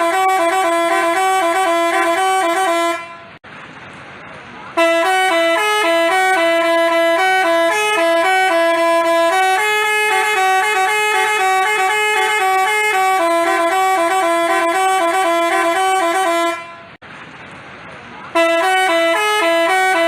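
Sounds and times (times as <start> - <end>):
multi-tone horn playing a tune: 0.0 - 3.4, 4.8 - 17.0, 18.4 - 20.0.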